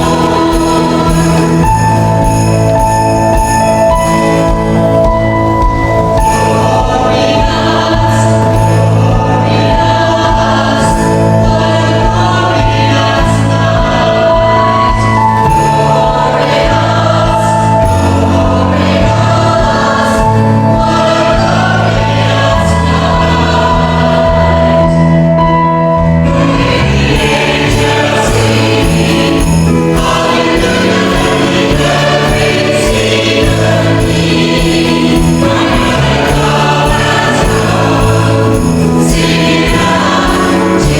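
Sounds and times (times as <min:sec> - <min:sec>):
choir singing: 0:00.0 - 0:40.9
instrumental accompaniment: 0:00.0 - 0:40.9.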